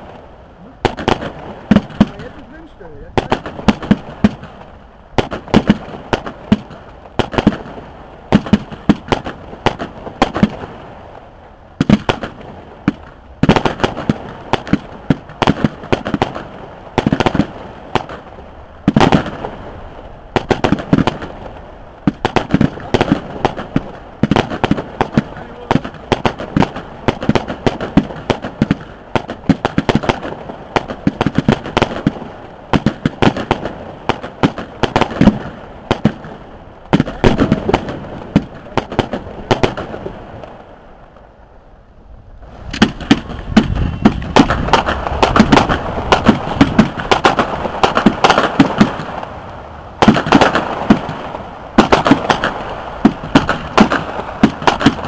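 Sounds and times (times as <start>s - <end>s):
fireworks bangs and crackles: 0.0s - 41.3s, 42.2s - 55.0s.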